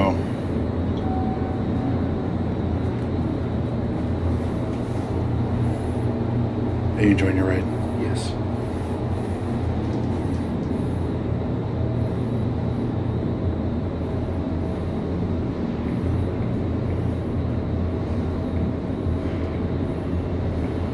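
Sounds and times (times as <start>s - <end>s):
elevator cab hum and rumble: 0.0s - 20.9s.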